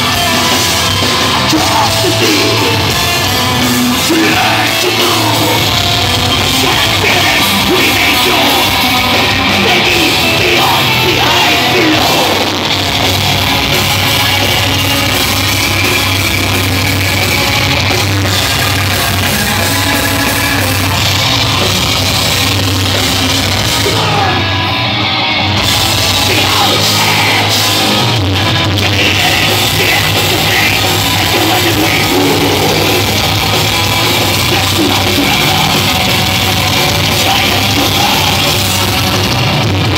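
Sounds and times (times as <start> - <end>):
distorted guitars: 0.0 - 39.9
drum kit: 0.0 - 39.9
harsh yelled vocals: 0.0 - 39.9.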